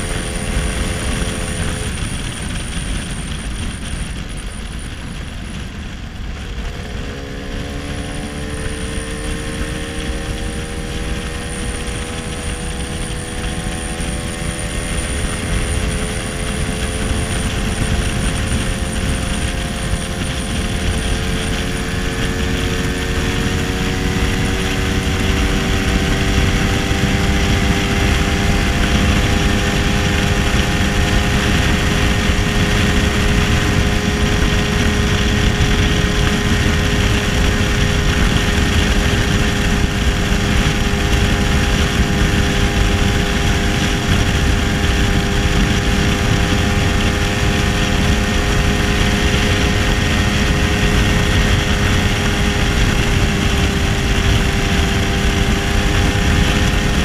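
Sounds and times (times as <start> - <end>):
two-stroke scooter engine cruising: 0.0 - 57.0
wind and road noise: 0.0 - 57.0.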